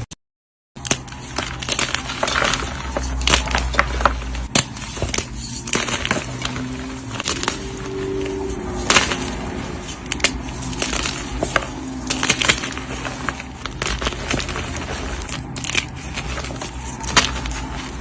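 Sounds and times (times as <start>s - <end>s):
chalk being crushed: 0.8s - 18.0s.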